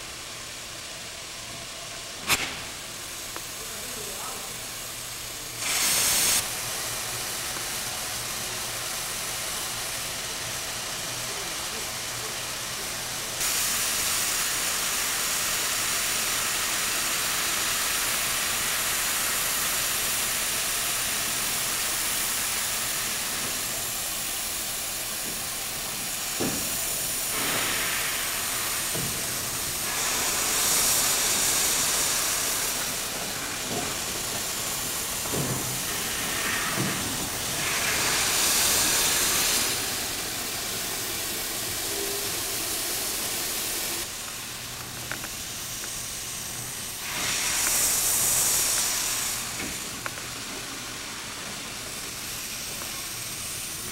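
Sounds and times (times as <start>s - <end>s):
steam hissing: 0.0s - 53.9s.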